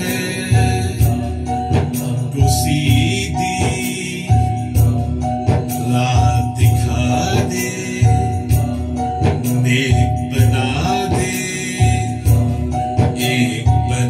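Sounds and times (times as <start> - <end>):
jingling percussion beat: 0.0 - 14.0
man singing into microphone: 0.0 - 14.0.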